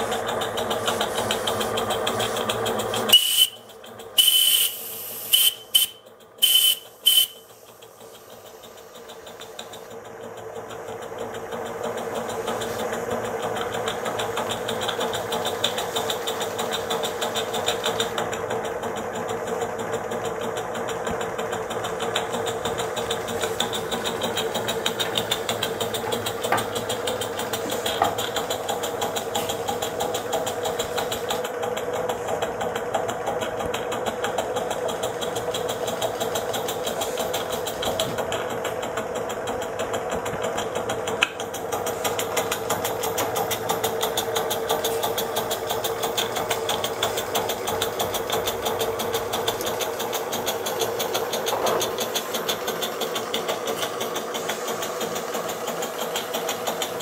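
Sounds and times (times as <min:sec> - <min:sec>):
model steam engine running: 0:00.0 - 0:57.0.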